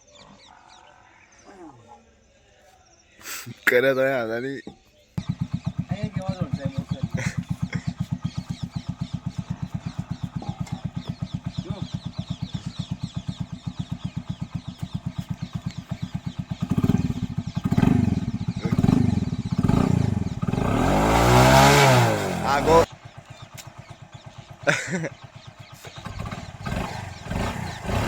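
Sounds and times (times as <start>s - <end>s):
motorcycle engine idling: 4.7s - 28.0s
motorcycle throttle blips: 5.2s - 28.0s.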